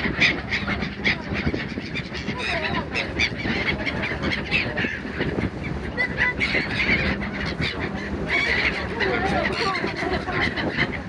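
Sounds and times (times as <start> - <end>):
gulls calling: 0.0 - 11.0
low steady rumble: 0.0 - 11.0.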